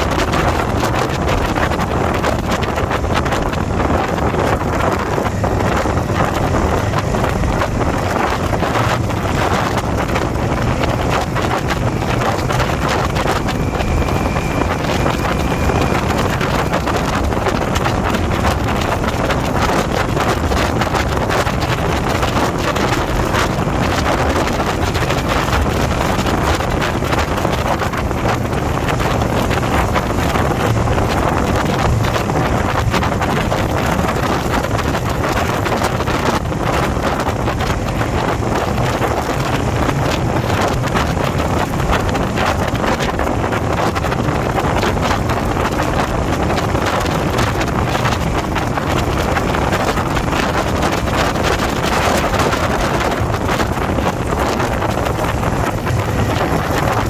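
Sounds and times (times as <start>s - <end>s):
motorcycle engine rumble: 0.0s - 57.0s
wind rushing over microphone: 0.0s - 57.0s.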